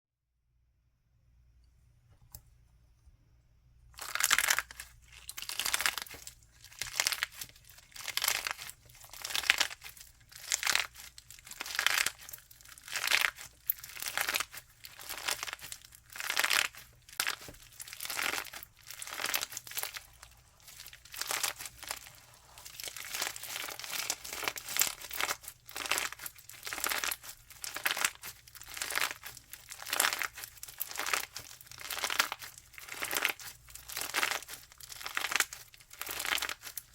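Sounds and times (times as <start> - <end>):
crunchy slime crackling: 4.0 - 36.9.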